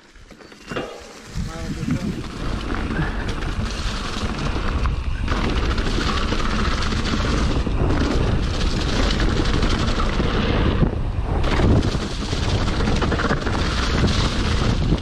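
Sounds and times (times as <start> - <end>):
bike rattling over bumps: 0.0 - 15.0
bike tyres rolling over dirt: 0.0 - 15.0
wind buffeting microphone: 1.2 - 15.0.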